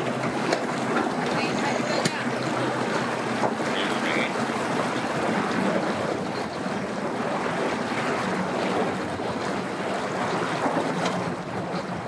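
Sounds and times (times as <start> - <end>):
boat engine idling: 0.0 - 12.0
constant wash of noise: 0.0 - 12.0.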